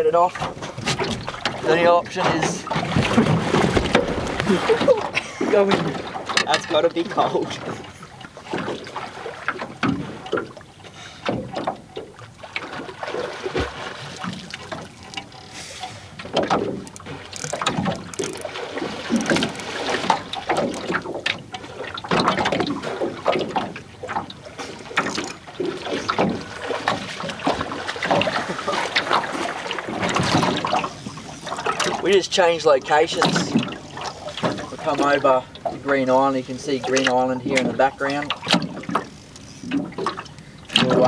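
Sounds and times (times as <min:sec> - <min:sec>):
swimming splashes: 0:00.0 - 0:41.0.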